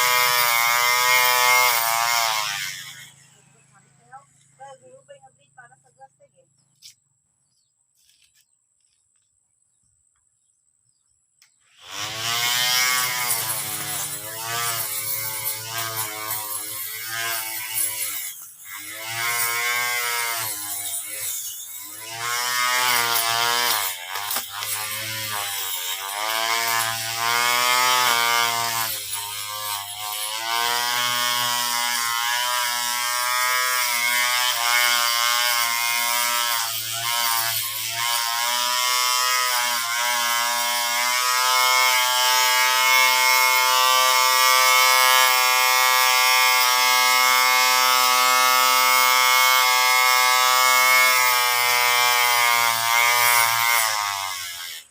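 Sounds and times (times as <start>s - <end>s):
electric lawn mower motor: 0.0s - 4.5s, 11.7s - 54.9s.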